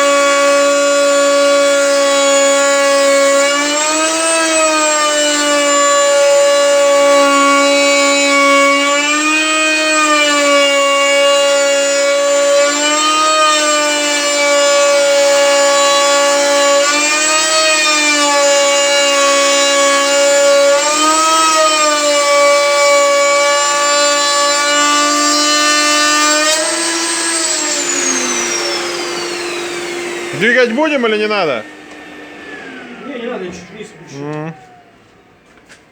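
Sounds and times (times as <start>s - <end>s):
electric router high whine: 0.0s - 35.9s.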